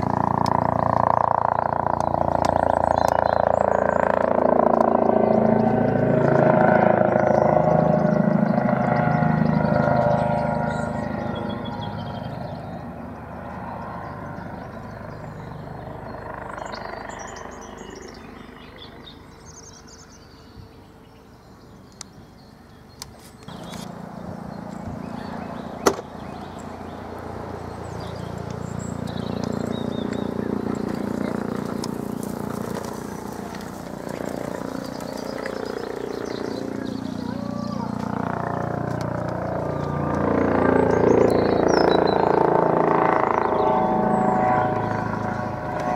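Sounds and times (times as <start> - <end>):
helicopter flying overhead: 0.0 - 45.9.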